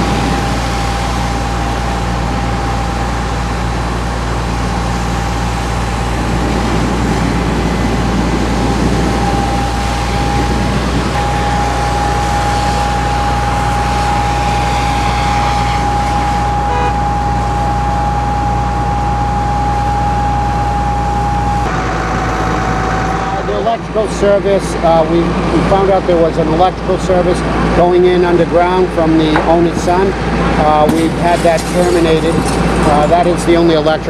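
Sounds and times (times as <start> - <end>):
broad rushing noise: 0.0 - 34.0
fire truck engines humming: 0.0 - 34.0.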